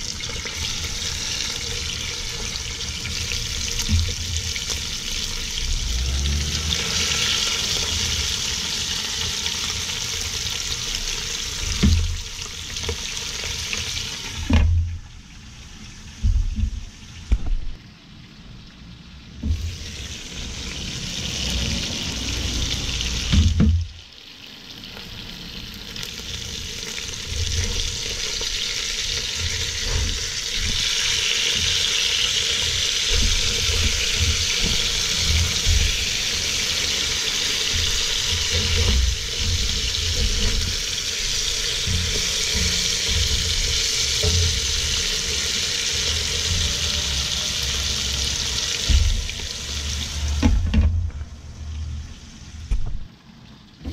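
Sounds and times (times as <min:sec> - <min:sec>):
fish frying in oil: 0:00.0 - 0:17.8, 0:19.1 - 0:53.1.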